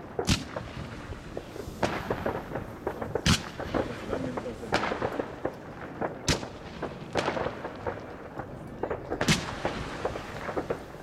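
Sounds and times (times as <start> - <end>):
firework bangs: 0.0 - 11.0
firework pops and crackles: 0.0 - 11.0.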